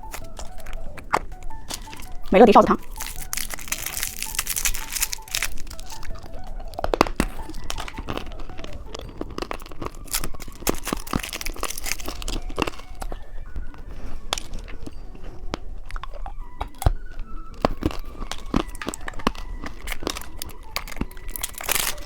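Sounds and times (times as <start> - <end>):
candy wrapper crinkling and tearing: 0.0 - 22.0.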